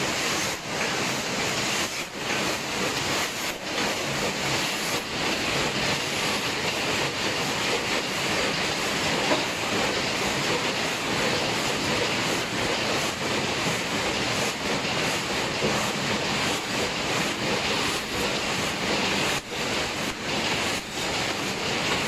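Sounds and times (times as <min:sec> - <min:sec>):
machines clattering: 0:00.0 - 0:22.0.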